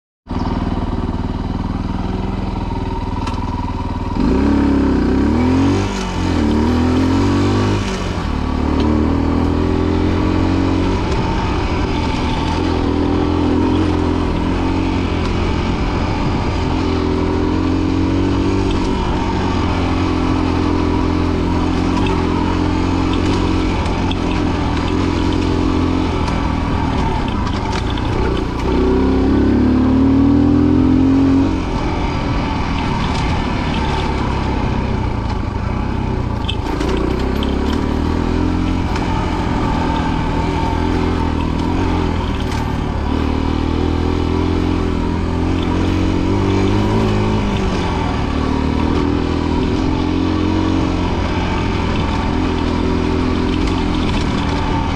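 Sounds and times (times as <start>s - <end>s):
motorcycle engine revving: 0.3s - 54.9s.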